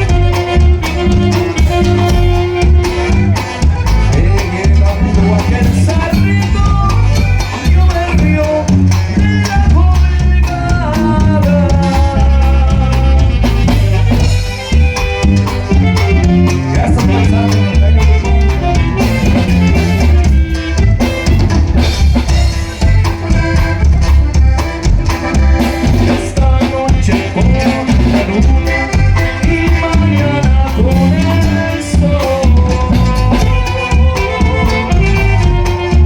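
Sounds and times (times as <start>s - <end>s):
band music with drums and bass: 0.0s - 36.0s.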